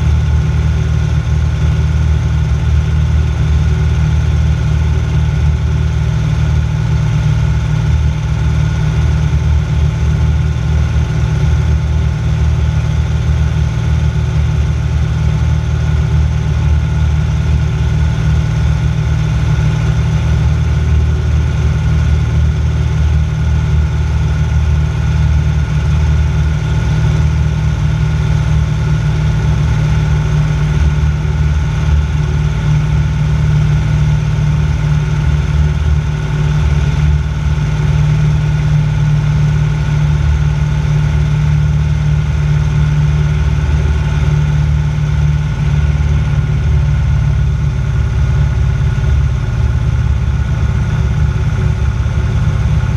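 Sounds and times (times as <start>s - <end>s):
plane engine and propeller drone: 0.0s - 52.9s.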